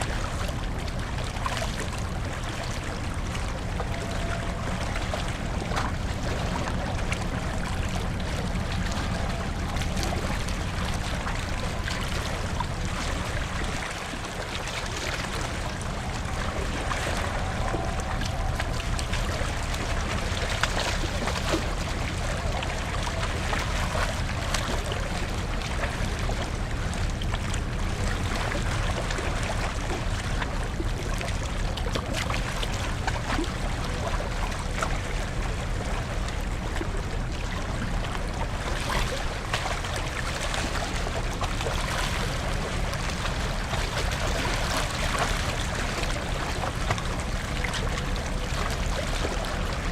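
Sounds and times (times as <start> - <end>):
low engine drone: 0.0 - 49.9
rushing water: 0.0 - 49.9.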